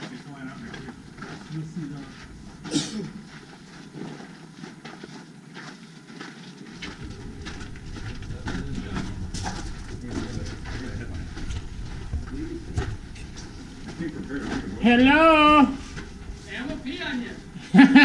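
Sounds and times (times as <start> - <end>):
footsteps on gravel path: 0.0 - 17.7
low rumble: 0.1 - 4.2, 6.8 - 18.0.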